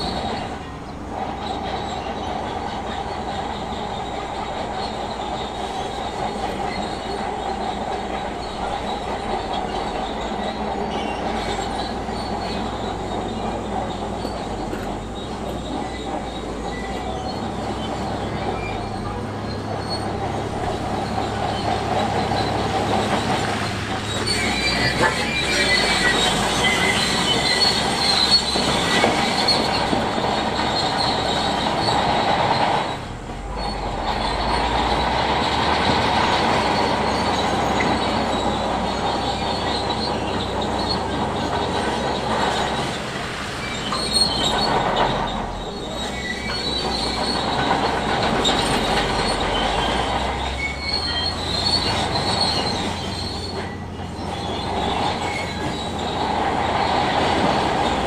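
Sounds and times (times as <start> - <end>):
bulldozer tracks squealing and clanking: 0.0 - 58.0
diesel engine: 0.0 - 58.0.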